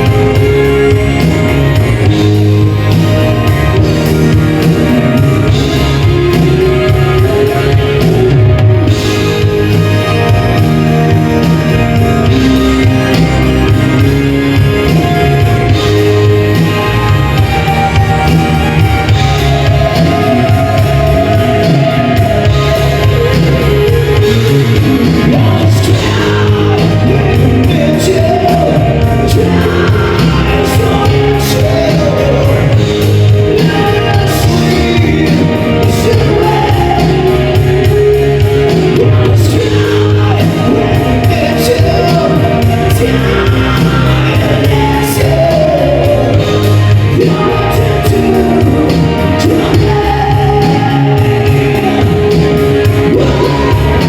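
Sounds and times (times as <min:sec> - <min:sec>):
live band music through speakers: 0:00.0 - 0:54.0
person singing: 0:00.0 - 0:54.0.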